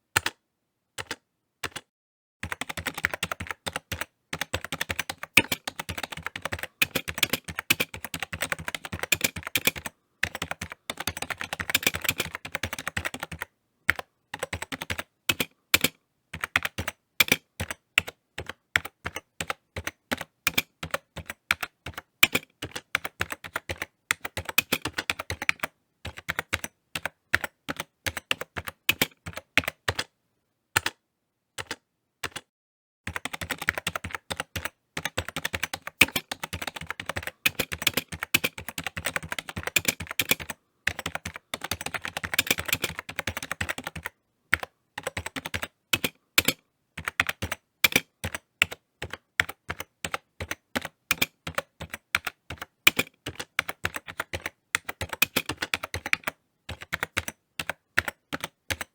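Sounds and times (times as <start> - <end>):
typing on computer keyboard: 0.2 - 0.4, 1.0 - 30.1, 30.8 - 31.0, 31.6 - 32.5, 33.1 - 58.9.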